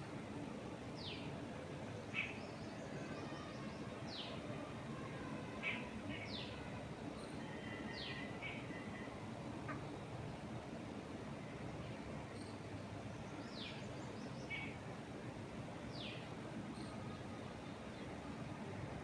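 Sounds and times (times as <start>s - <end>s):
wind in trees: 0.0s - 19.0s.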